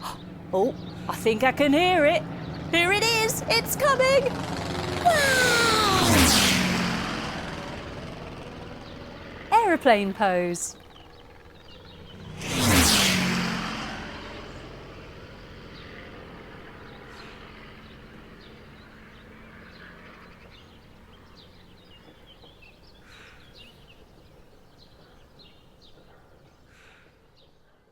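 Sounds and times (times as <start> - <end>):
faint birdsong: 0.0 - 4.4, 7.7 - 12.7, 14.1 - 27.9
aeroplane hum: 0.0 - 23.3.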